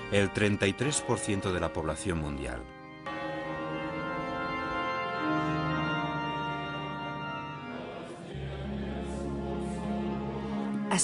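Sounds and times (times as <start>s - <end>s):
organ chords: 0.0s - 11.0s.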